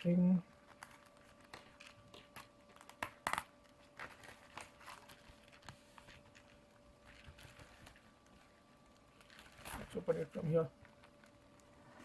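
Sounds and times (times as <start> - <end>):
mailer envelope crinkling: 0.6 - 11.7.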